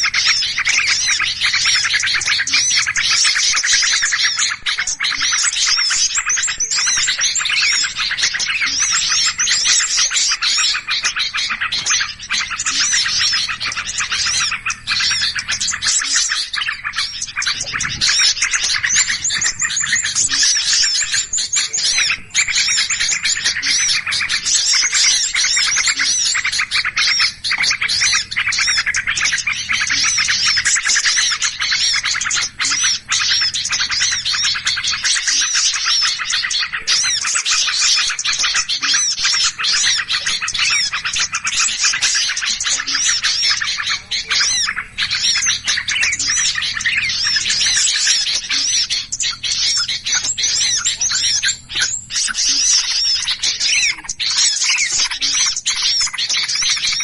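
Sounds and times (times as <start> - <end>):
small birds chirping chorus: 0.0 - 57.0.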